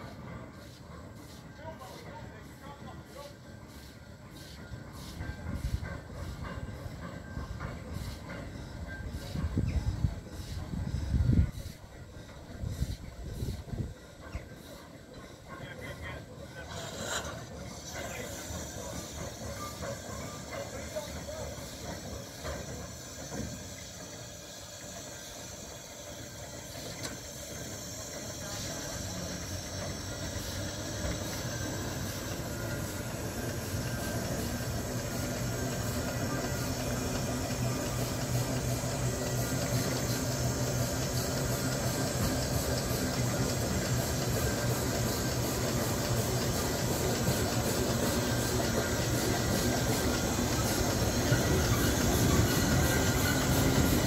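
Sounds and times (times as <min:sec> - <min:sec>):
crane rumbling on rails: 0:00.0 - 0:54.0
steam hissing: 0:00.0 - 0:54.0.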